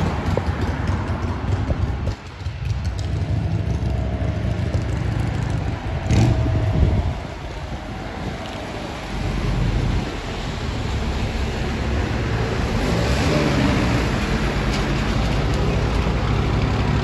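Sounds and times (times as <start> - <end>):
distant aircraft engine rumble: 0.0 - 17.0
wind buffeting microphone: 0.0 - 17.0.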